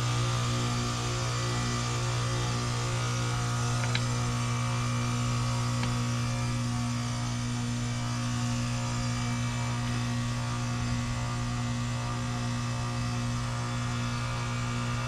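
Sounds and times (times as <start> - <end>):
compressor low hum: 0.0 - 15.0.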